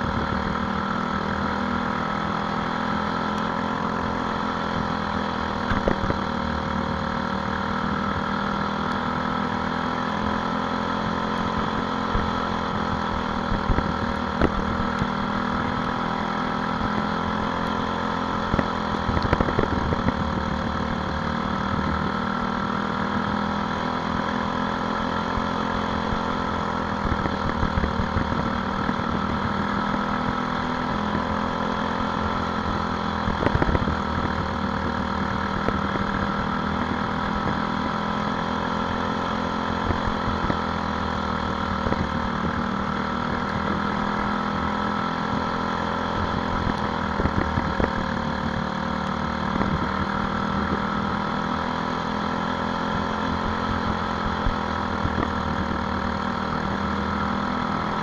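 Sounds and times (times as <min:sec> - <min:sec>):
kart engine running: 0:00.0 - 0:58.0.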